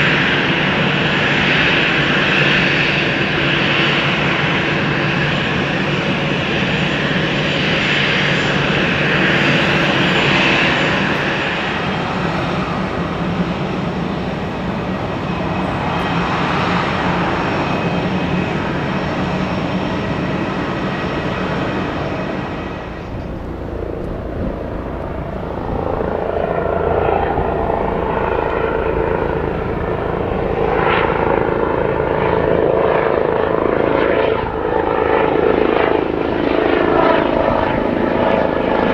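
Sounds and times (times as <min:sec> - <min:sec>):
helicopter rotor and engine: 0:00.0 - 0:38.9
jet engines running: 0:00.0 - 0:38.9.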